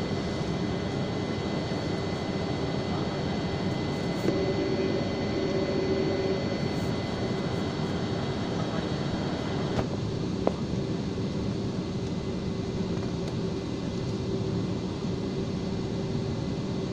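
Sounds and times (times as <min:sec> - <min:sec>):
faint hum: 0:00.0 - 0:16.9
jet engine cabin noise: 0:00.0 - 0:16.9.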